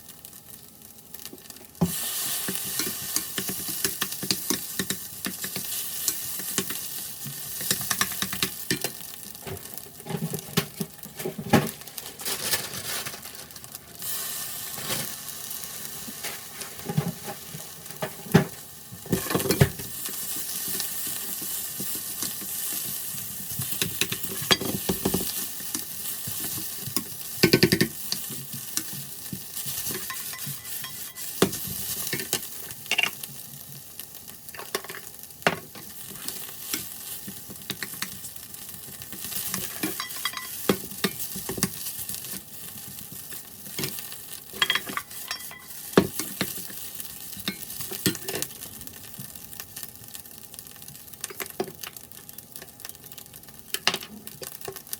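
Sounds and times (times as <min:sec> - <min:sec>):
rice sizzling in a pan: 0:00.0 - 0:54.9.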